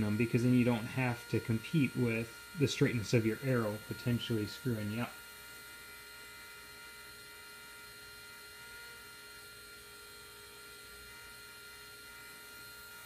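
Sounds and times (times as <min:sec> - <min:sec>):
small electric motor humming: 0:00.0 - 0:13.0.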